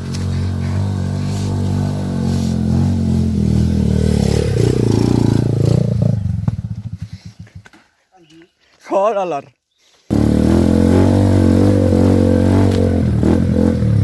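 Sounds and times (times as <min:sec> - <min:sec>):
motorcycle engine revving: 0:00.0 - 0:07.7, 0:10.1 - 0:14.0.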